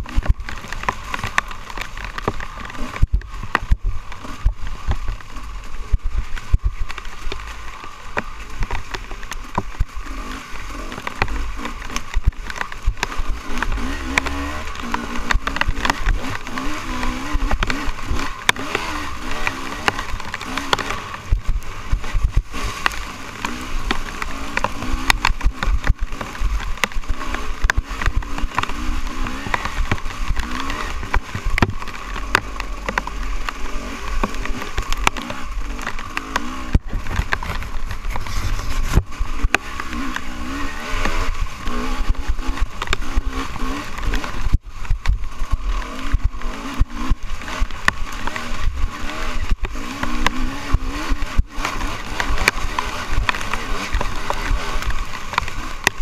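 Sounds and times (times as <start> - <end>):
bike knocking and rattling: 0.0 - 56.0
dirt bike engine revving: 0.0 - 56.0.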